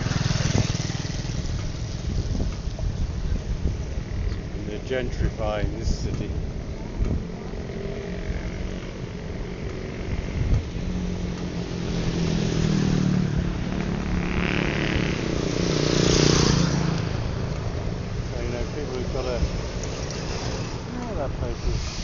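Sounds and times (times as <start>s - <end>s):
motorcycle engine running: 0.0s - 4.5s, 6.2s - 21.7s
street traffic: 0.0s - 22.0s.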